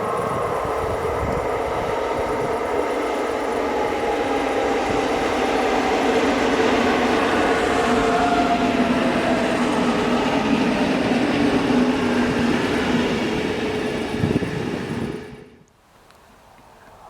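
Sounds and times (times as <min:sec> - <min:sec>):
train wheels rumbling on rail: 0:00.0 - 0:15.6.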